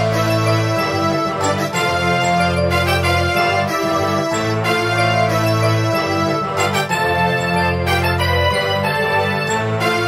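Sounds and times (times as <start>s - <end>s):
keyboard chords: 0.0s - 10.0s.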